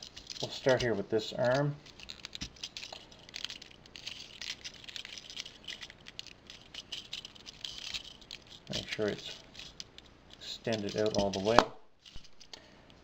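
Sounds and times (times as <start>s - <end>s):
plastic toy parts clicking: 0.0s - 12.7s.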